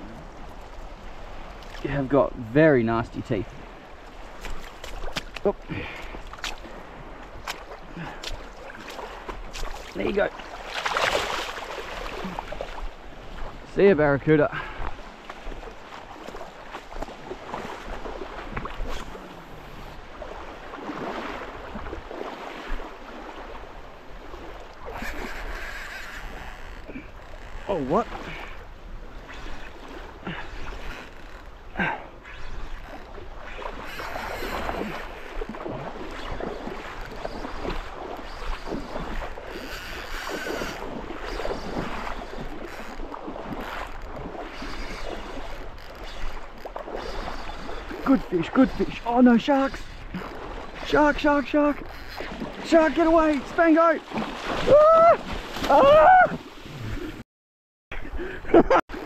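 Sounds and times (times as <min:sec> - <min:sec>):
small water splashes: 0:00.0 - 0:02.3, 0:03.2 - 0:57.1
seawater sloshing and lapping: 0:00.0 - 0:57.2.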